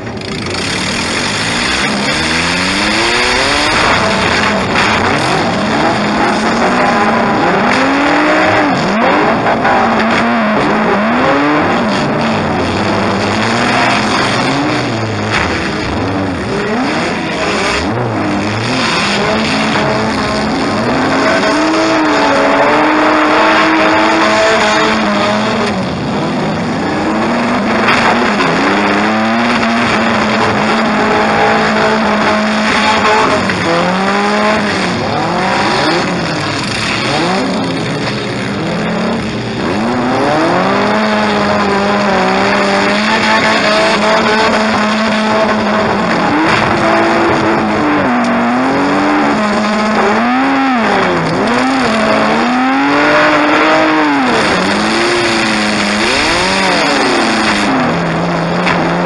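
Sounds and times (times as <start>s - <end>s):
car engines revving: 0.0s - 59.0s
loud rushing noise: 0.0s - 59.0s.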